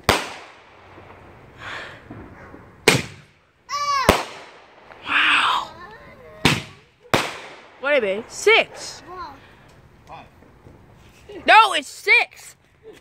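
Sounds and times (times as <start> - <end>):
firework shells bursting: 0.0 - 11.1.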